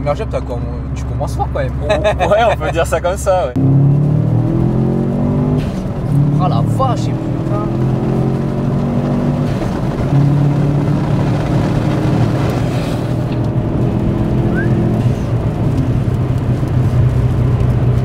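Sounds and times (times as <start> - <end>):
car engine running: 0.0 - 18.0
road noise: 0.0 - 18.0.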